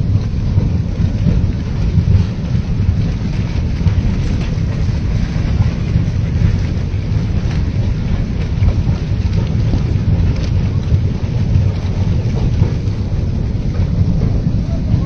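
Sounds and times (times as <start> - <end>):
debris flow rumbling: 0.0 - 15.0.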